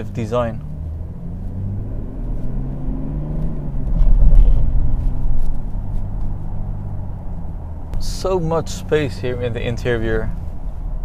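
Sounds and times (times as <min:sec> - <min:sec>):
diesel engine in car cabin: 0:00.0 - 0:11.0.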